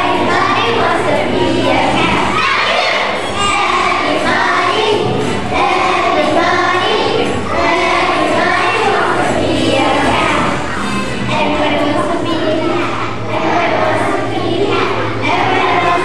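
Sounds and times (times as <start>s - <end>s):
children's chorus singing: 0.0s - 16.0s
musical accompaniment: 0.0s - 16.0s.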